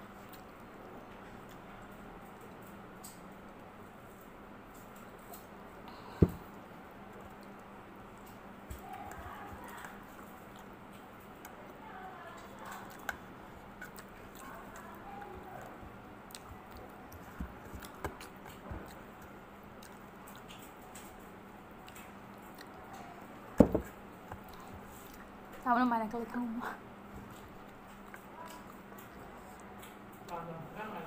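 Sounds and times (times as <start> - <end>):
faint chewing: 0.0 - 31.0
steady low hum: 0.0 - 31.0.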